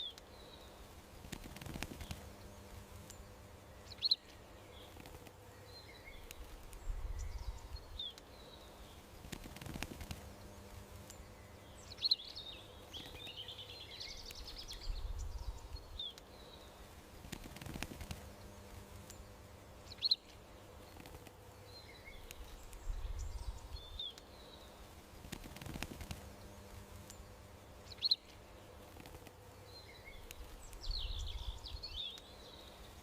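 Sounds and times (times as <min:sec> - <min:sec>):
faint steady hum: 0:00.0 - 0:33.0
small birds chirping: 0:00.0 - 0:33.0.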